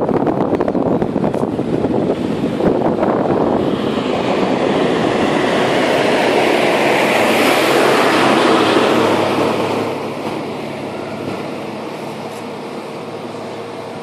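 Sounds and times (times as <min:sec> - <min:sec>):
lorry passing by: 0:00.9 - 0:14.0.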